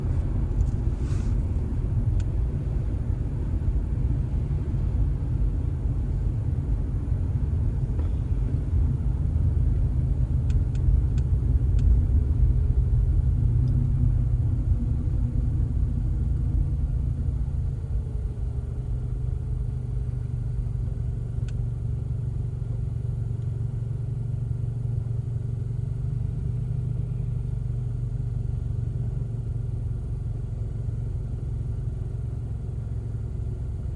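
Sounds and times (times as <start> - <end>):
road noise: 0.0 - 29.6
car engine rumble: 0.0 - 33.9.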